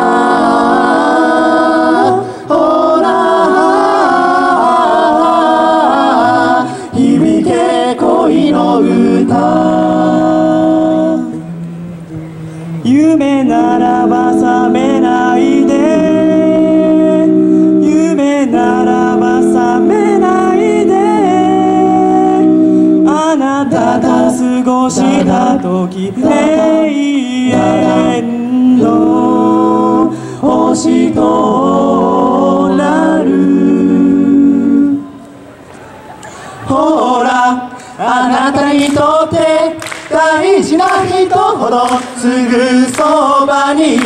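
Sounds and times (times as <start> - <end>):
male voices singing in harmony: 0.0 - 35.2, 36.2 - 44.0.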